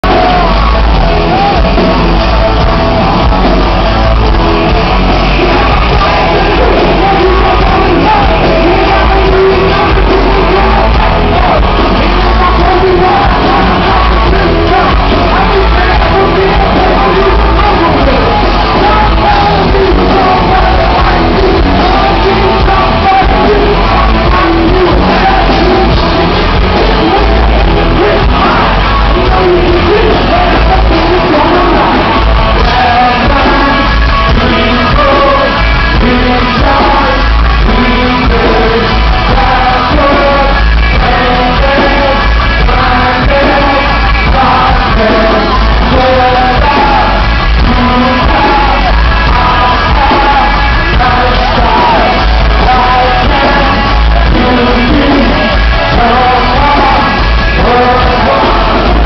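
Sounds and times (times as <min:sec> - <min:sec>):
hard rock band playing live: 0:00.0 - 0:59.0
man singing: 0:00.0 - 0:59.0.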